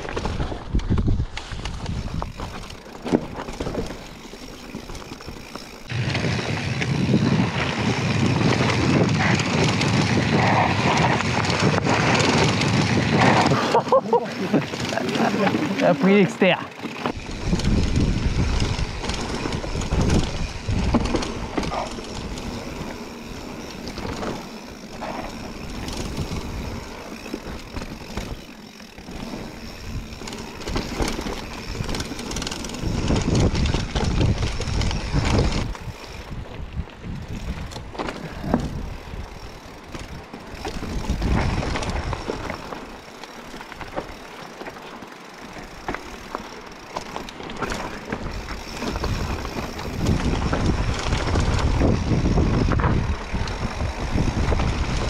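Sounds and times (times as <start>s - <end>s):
bike rattling and knocking: 0.0s - 55.0s
bike tyres on stony ground: 0.0s - 55.0s.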